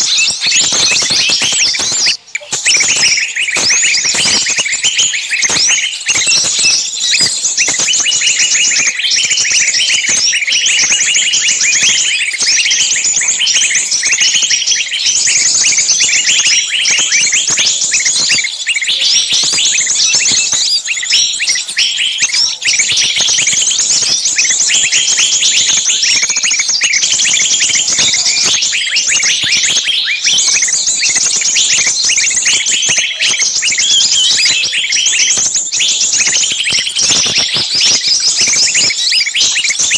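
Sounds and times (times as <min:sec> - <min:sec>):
chorus of bird chirps and trills: 0:00.0 - 0:39.9.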